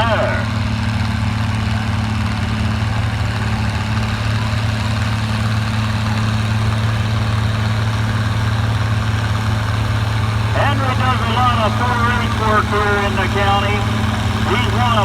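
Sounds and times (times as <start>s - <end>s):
tractor engine running hard: 0.0s - 15.0s.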